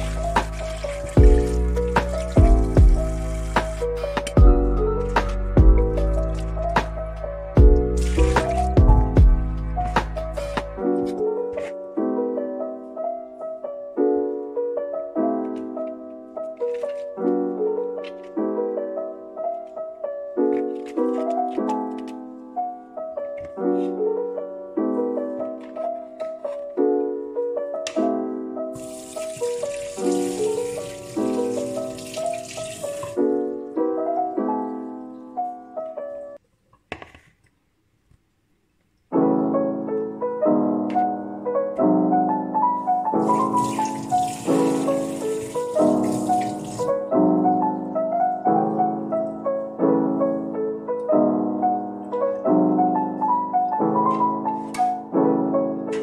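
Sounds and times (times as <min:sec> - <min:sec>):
soft piano chords: 0:00.0 - 0:36.4, 0:38.9 - 0:56.0.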